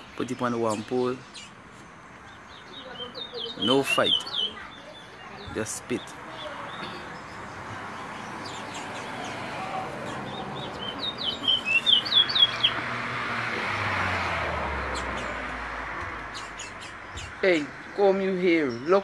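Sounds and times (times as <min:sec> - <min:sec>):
songbird chirping: 0:00.0 - 0:19.0.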